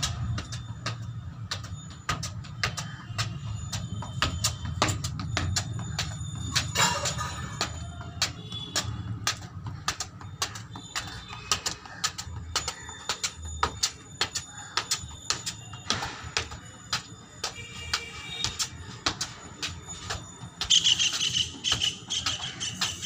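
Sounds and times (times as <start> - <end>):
boots stepping on concrete: 0.0 - 23.0
football being kicked and bouncing: 0.0 - 23.0.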